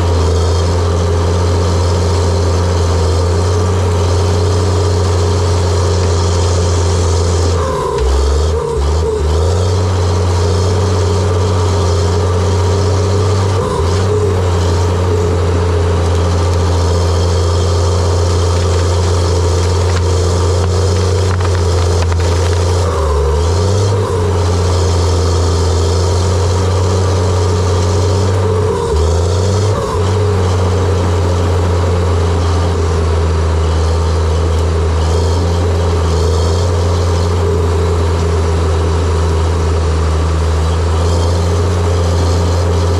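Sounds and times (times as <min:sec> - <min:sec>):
dozer diesel engine running: 0:00.0 - 0:42.9.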